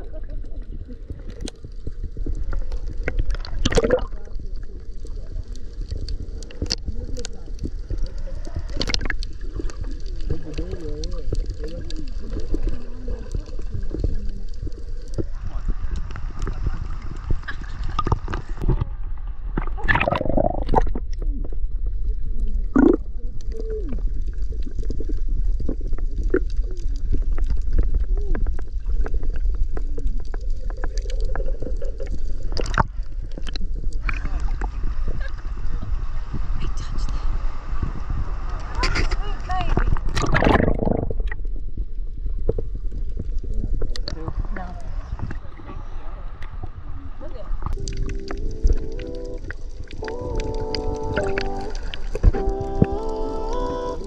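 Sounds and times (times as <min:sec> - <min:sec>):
underwater clicks and crackles: 0:00.0 - 0:54.0
underwater rumble: 0:00.0 - 0:54.0
water gurgle: 0:00.0 - 0:54.0.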